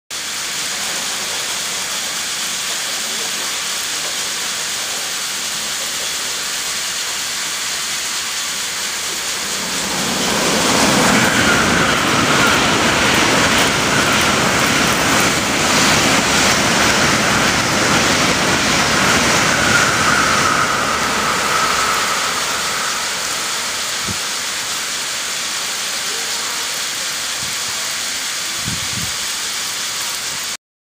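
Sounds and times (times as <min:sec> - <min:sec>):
high-speed train passing: 0:00.1 - 0:30.6
track sprinklers hissing: 0:00.1 - 0:30.6.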